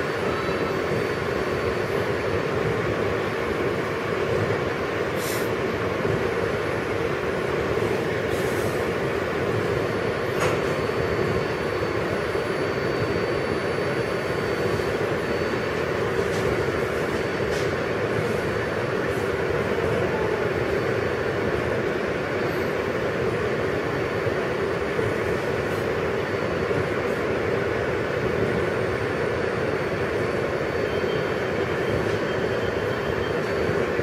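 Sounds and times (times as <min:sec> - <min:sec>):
train ventilation whirring: 0:00.0 - 0:34.0.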